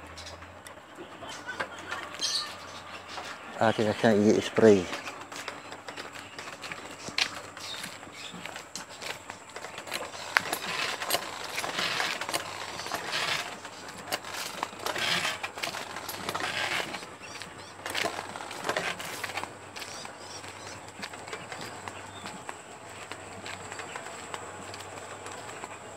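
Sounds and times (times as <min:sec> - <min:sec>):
footsteps on dirt path: 0:01.6 - 0:25.9.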